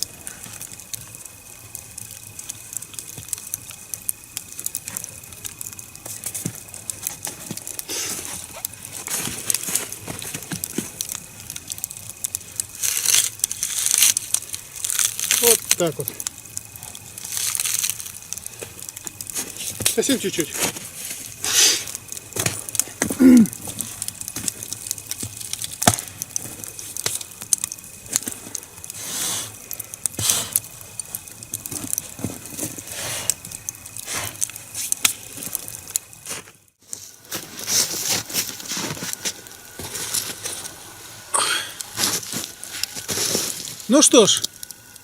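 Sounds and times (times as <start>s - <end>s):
log fire crackling: 0.0s - 45.0s.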